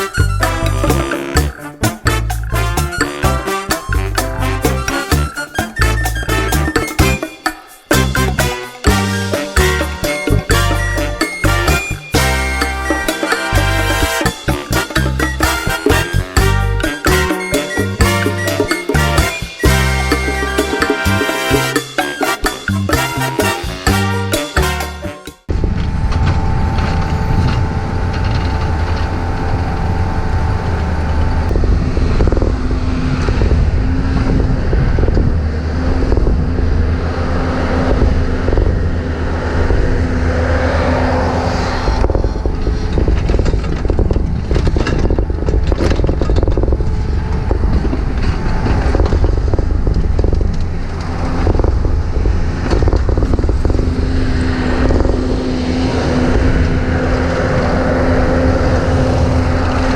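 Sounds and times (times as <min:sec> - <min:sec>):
hydraulic whine: 0:00.0 - 0:59.9
diesel engine under load: 0:07.9 - 0:24.0, 0:25.5 - 0:59.9.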